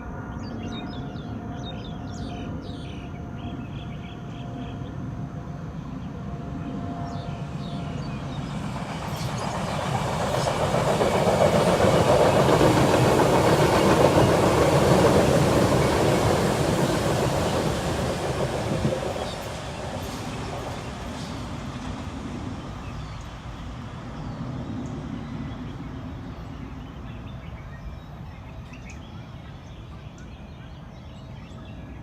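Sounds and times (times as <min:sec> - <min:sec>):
train wheels rumbling on rail: 0:05.0 - 0:32.0.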